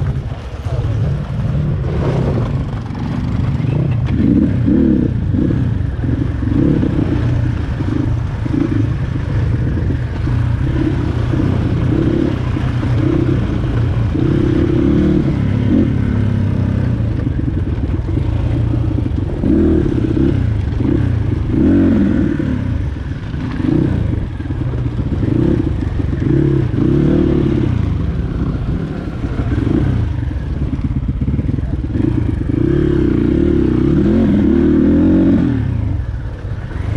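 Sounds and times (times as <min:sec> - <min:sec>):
bike rattling over rough ground: 0:00.0 - 0:21.6, 0:22.8 - 0:33.2
dirt bike engine revving: 0:01.2 - 0:36.9.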